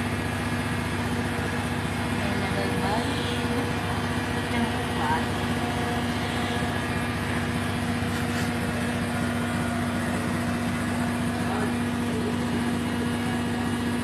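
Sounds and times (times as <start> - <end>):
machine humming: 0.0 - 14.0.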